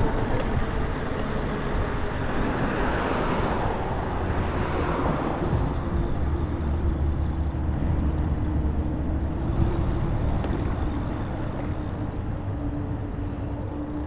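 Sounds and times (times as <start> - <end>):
wind and tyres on road: 0.0 - 14.0.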